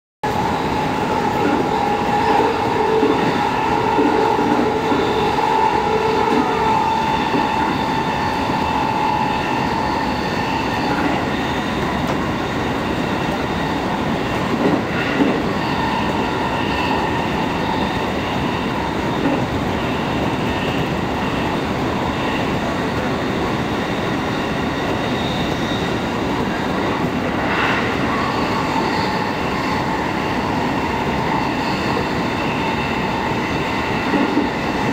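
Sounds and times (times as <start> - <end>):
steady whine: 0.2 - 34.9
train wheels rumbling on rails: 0.2 - 34.9.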